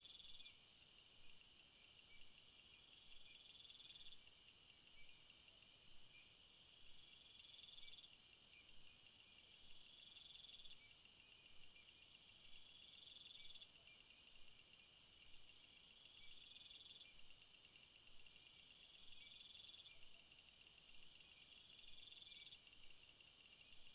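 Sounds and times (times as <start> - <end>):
insect high chirp trill: 0.1 - 23.9.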